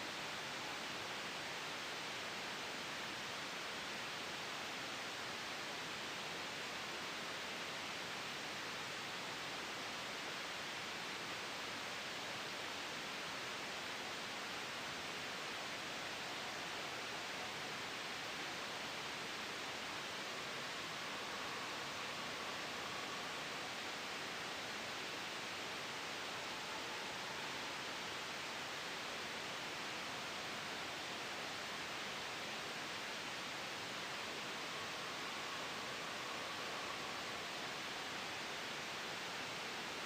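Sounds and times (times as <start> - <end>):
white noise hiss: 0.0 - 40.0.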